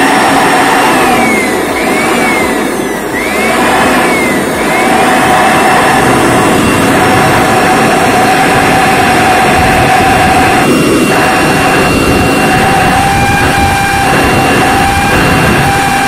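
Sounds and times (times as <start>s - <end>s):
electric blower running: 0.0s - 16.0s
whistle falling and rising: 0.0s - 16.0s.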